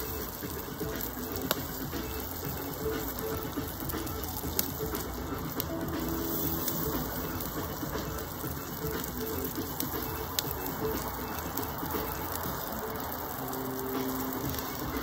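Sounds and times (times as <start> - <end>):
corn sizzling on grill: 0.0 - 15.0
sharp crackles and spits: 0.0 - 15.0.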